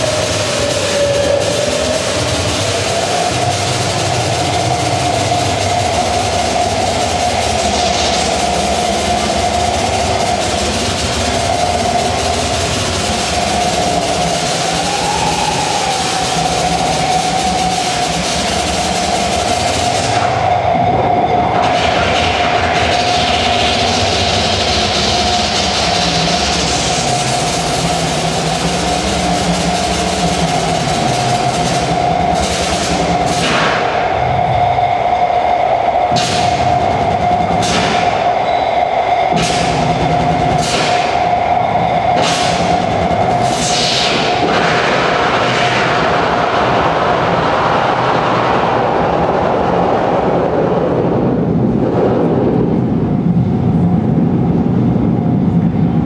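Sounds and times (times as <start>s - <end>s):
electronic noise drone: 0.0s - 56.0s
loud wash of noise: 0.0s - 56.0s
low rumble: 0.0s - 56.0s
steady mid-pitched tone: 0.0s - 56.0s.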